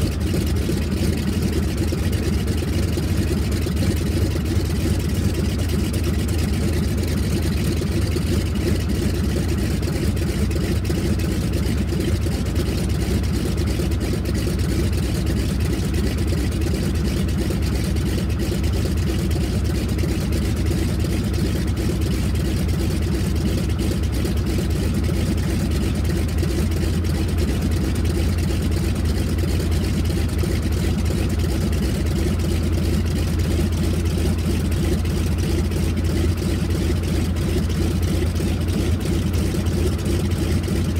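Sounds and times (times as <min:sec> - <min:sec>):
radial aircraft engine idling: 0:00.0 - 0:40.9.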